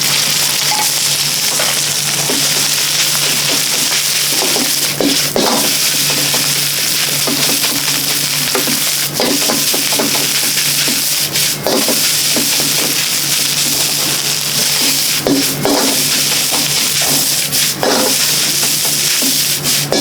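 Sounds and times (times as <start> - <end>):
rice sizzling in a wok: 0.0 - 20.0
ladle scraping a wok: 1.4 - 20.0.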